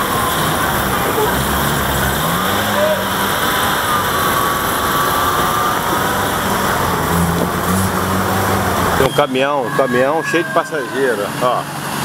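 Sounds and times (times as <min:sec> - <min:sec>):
traffic: 0:00.0 - 0:12.0
vehicle engine running: 0:00.0 - 0:12.0.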